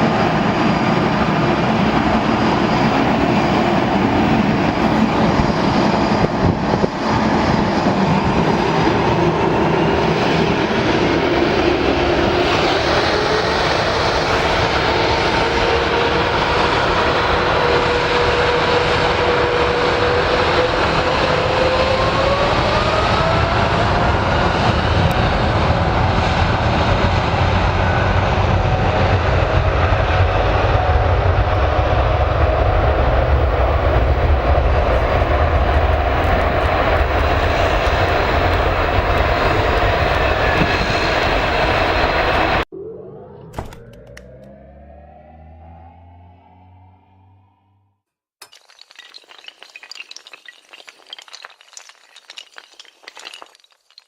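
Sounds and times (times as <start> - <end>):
jet engine roar with whine: 0.0 - 47.6.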